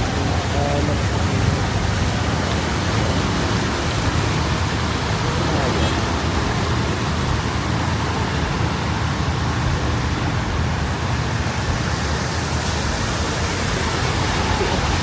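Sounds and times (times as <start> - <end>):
hiss of water on wet street: 0.0 - 15.0
low traffic rumble: 0.0 - 15.0.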